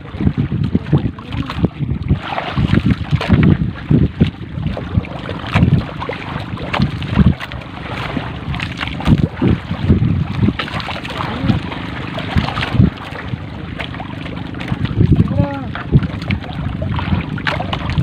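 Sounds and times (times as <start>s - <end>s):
boat engine hum: 0.0s - 18.0s
water splashing: 0.0s - 18.0s
wind on microphone: 0.0s - 18.0s.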